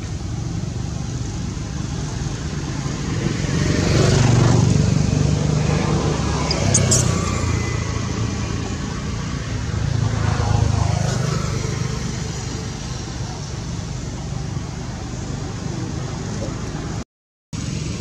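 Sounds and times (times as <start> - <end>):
motor traffic rumble: 0.0 - 17.0, 17.6 - 18.0
vehicle passing: 0.0 - 17.0.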